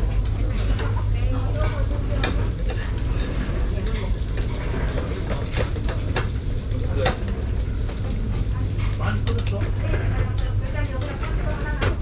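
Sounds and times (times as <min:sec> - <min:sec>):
diners chatting: 0:00.0 - 0:12.0.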